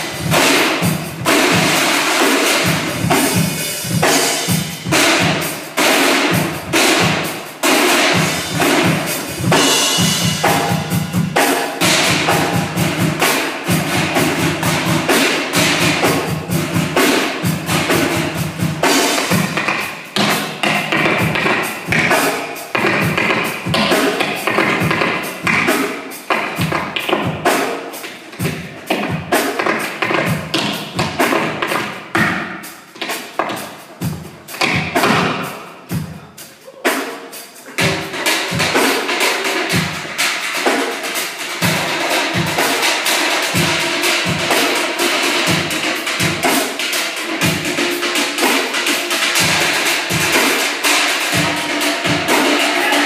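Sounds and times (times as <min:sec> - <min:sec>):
drums and struck cans: 0:00.0 - 0:53.0.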